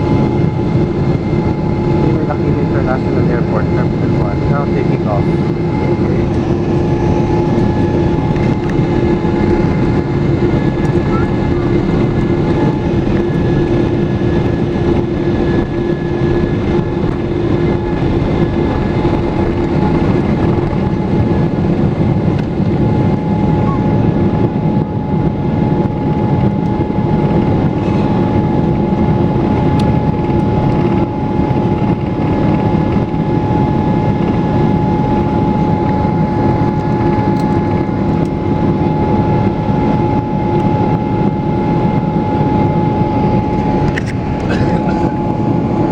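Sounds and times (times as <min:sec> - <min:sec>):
jet engines whining: 0:00.0 - 0:45.9.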